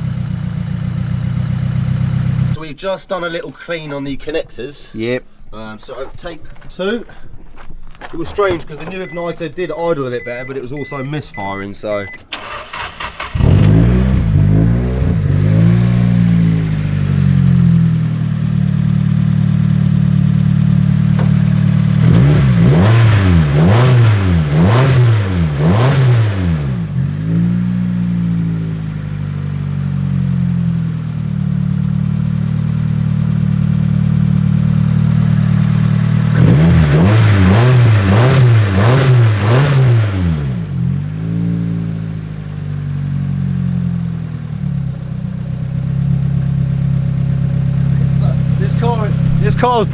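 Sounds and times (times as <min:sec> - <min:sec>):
car engine idling and revving: 0:00.0 - 0:02.6, 0:10.8 - 0:49.9.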